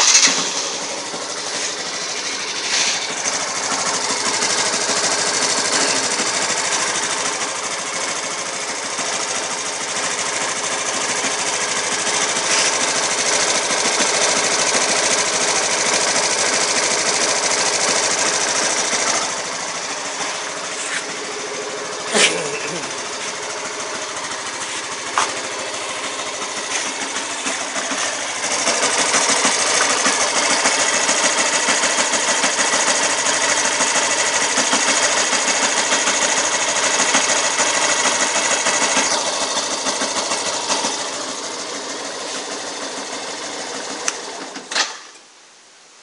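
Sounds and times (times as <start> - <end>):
motorcycle engine clattering: 0.0 - 45.2.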